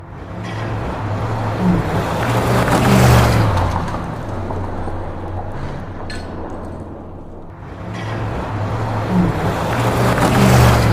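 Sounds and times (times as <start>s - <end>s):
car engine passing at speed: 0.0s - 10.9s
tyre and wind noise: 0.0s - 10.9s.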